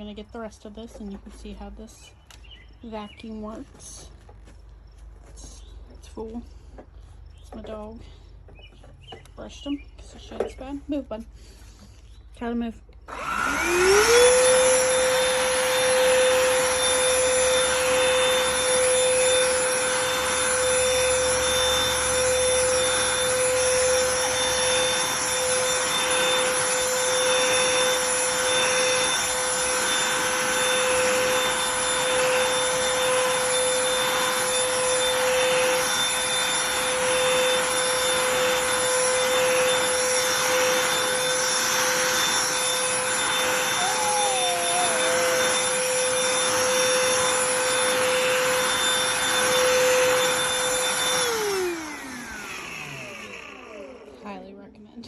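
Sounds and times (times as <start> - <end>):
handheld vacuum motor whining: 0.0 - 54.7.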